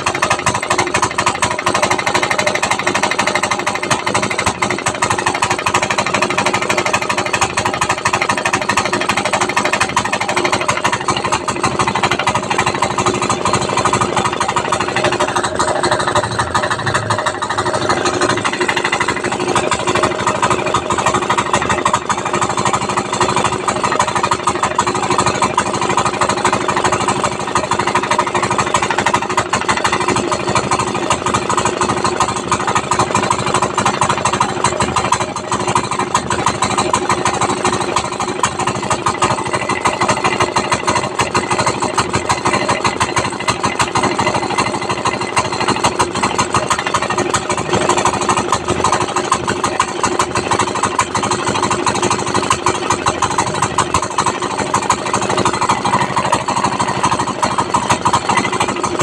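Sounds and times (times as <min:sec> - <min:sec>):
diesel engine running with harsh knock: 0:00.0 - 0:59.0.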